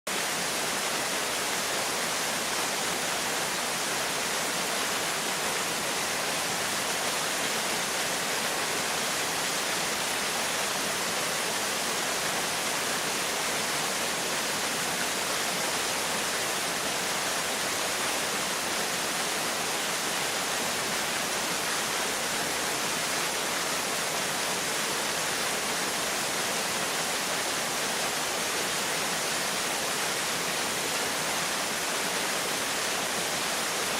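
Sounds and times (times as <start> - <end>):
small waterfall rushing: 0.0 - 33.9.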